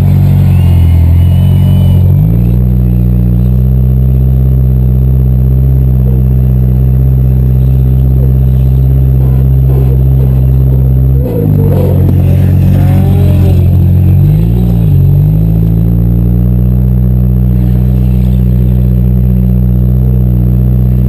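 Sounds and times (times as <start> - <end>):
car engine revving high: 0.0 - 21.0.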